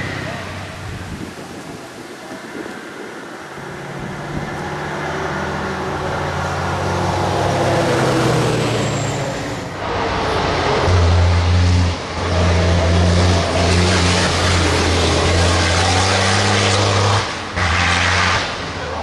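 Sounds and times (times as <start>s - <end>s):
truck diesel engine pulling hard: 0.0s - 19.0s.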